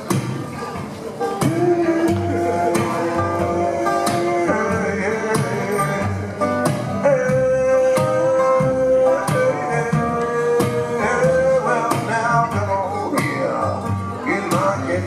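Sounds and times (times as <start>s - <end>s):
plucked double bass: 0.0s - 15.0s
man singing: 1.3s - 15.0s.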